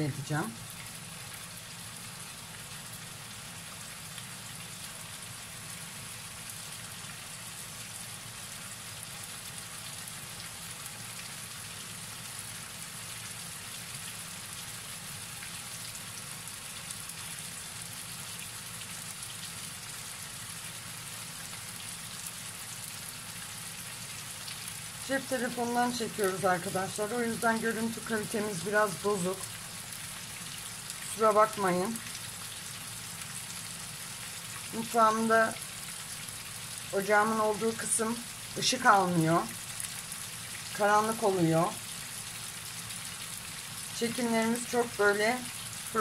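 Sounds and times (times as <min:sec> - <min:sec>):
chicken sizzling in hot oil: 0:00.0 - 0:46.0.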